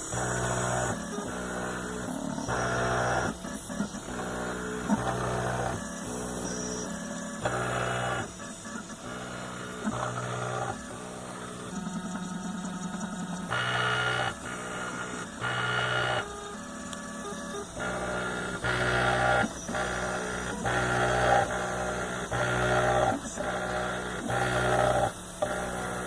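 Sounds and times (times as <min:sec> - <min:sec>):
stepper motors whining: 0:00.0 - 0:26.0.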